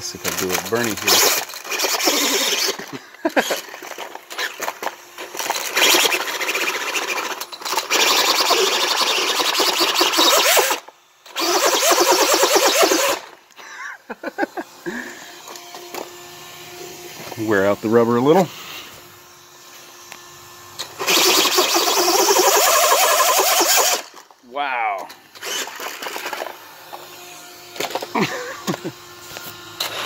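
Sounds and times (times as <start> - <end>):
electric motor high whine: 0.0 - 30.0.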